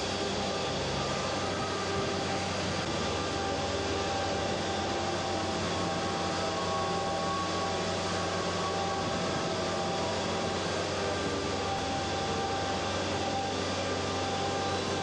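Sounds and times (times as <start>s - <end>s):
engines droning with hiss: 0.0s - 15.0s.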